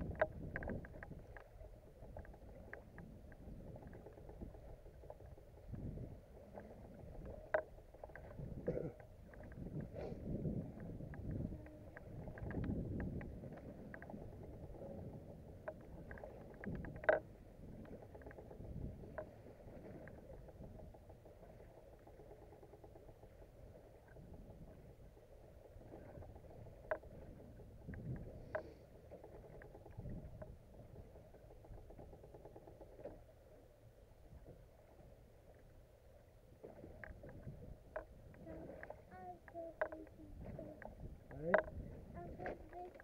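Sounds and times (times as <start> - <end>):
low steady rumble: 0.0 - 43.0
water lapping against boat hull: 0.0 - 43.0.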